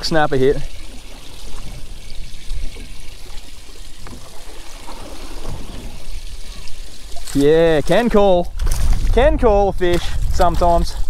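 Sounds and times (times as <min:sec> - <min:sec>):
water trickling and lapping: 0:00.0 - 0:09.3.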